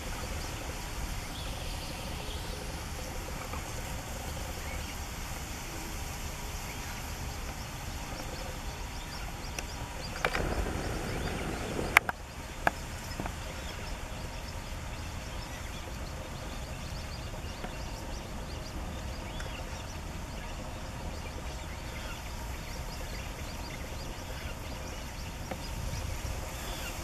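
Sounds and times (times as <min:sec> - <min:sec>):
low background noise: 0:00.0 - 0:27.0.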